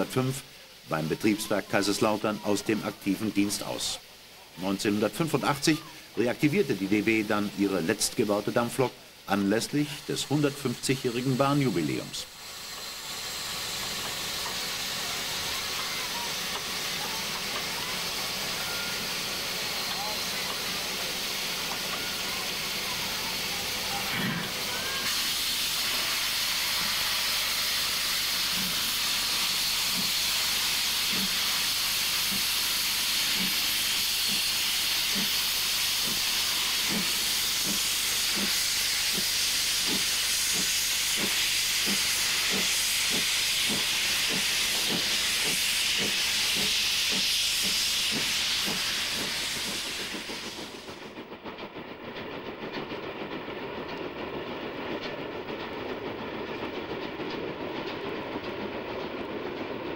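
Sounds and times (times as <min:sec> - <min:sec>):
steam locomotive exhaust chuffs: 0:00.0 - 0:59.9
steam locomotive hissing: 0:00.0 - 0:59.9.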